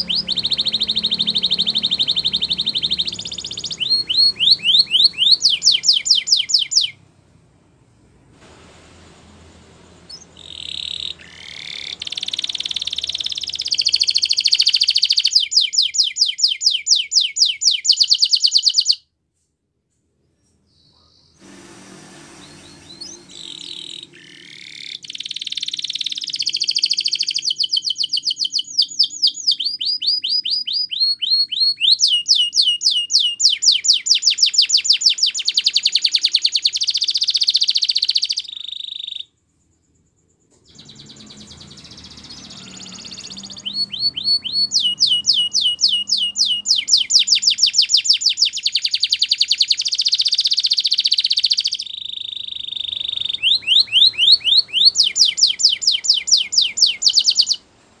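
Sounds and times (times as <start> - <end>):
canary singing: 0.0 - 7.1, 9.8 - 19.1, 20.3 - 39.4, 40.5 - 57.8.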